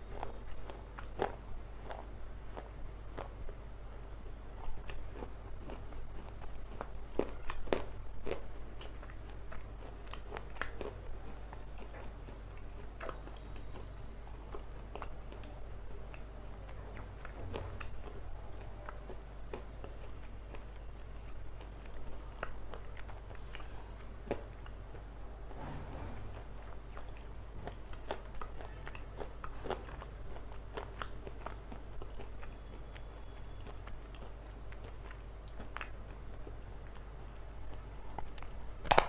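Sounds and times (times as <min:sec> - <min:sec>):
crunchy chewing: 0:00.0 - 0:39.0
steady low hum: 0:00.0 - 0:39.0.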